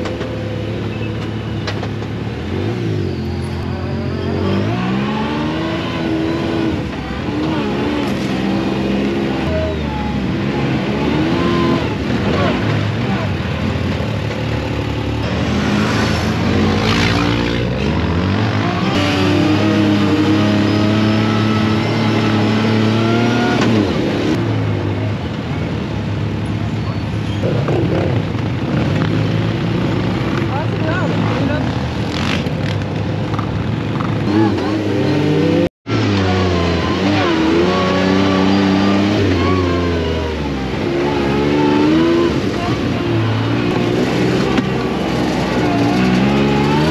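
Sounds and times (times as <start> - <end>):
buggy engine revving: 0.0 - 46.9.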